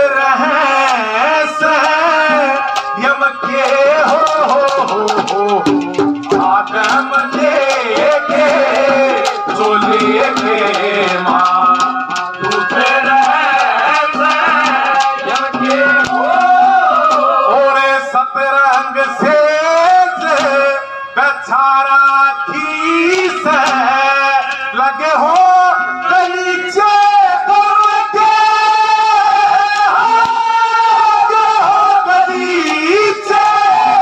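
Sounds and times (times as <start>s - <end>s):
man singing high ornamented: 0.0s - 34.0s
sustained accompaniment: 0.0s - 34.0s
hand-drum strokes: 0.8s - 17.7s, 18.7s - 20.8s, 22.8s - 27.2s, 29.3s - 34.0s.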